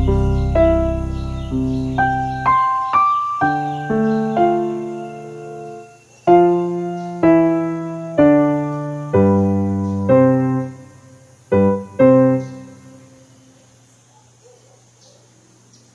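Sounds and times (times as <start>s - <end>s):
slow piano chords: 0.0s - 13.7s.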